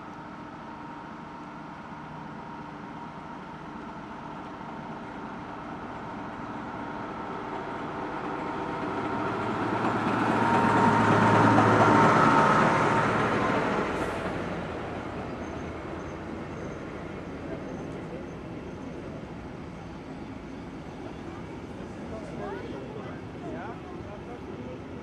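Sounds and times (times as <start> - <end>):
diesel locomotive engine passing: 0.8 - 25.0
train coaches rolling on rails: 3.8 - 25.0.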